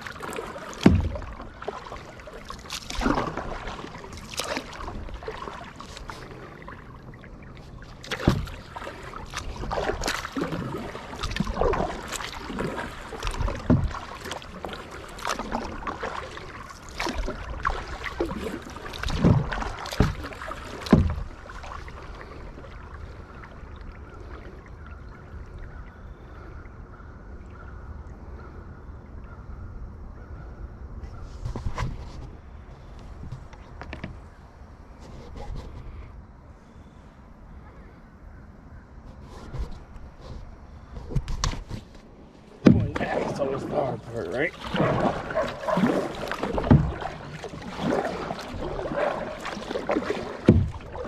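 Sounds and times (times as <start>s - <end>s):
paddle strokes splashing: 0.0s - 26.8s, 31.1s - 36.1s, 39.0s - 51.0s.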